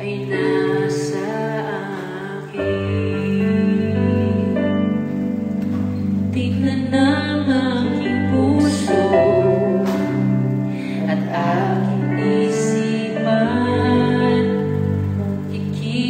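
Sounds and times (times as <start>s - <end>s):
gentle ballad accompaniment: 0.0s - 16.0s
person singing long notes: 0.0s - 16.0s.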